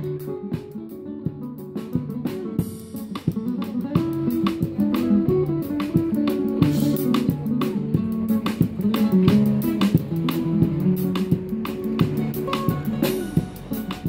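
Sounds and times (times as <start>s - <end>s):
classical guitar melody: 0.0s - 14.0s.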